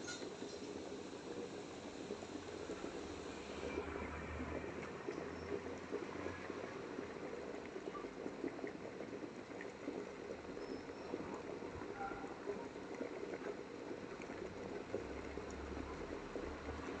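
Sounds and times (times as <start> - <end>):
kettle water bubbling: 0.0 - 17.0.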